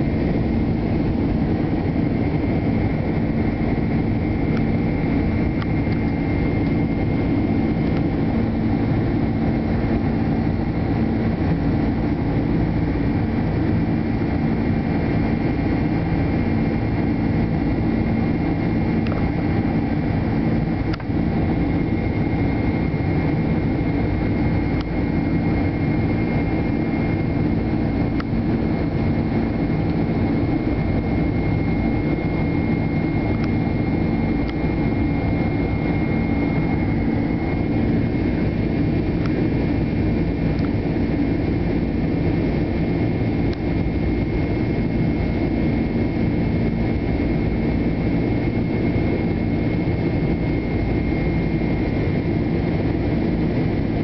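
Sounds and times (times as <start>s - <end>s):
jet engine rumble in cabin: 0.0s - 54.0s
thin engine whine: 0.0s - 54.0s.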